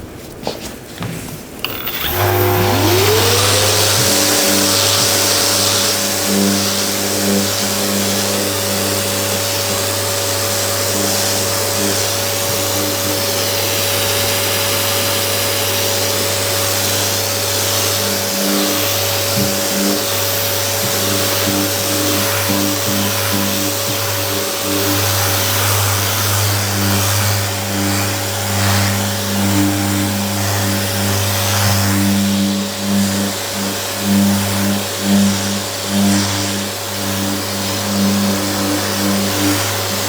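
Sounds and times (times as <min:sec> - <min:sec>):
electric blower motor whine: 0:01.6 - 0:40.0.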